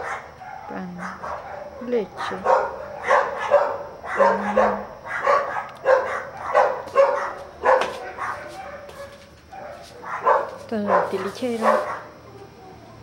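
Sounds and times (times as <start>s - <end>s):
dog barking: 0.0s - 12.8s.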